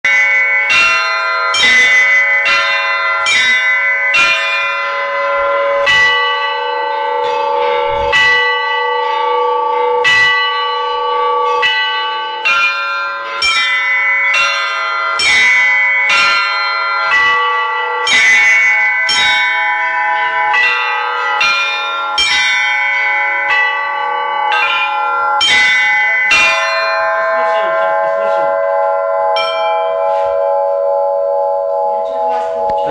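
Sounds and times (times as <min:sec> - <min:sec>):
church bells ringing: 0:00.0 - 0:32.9.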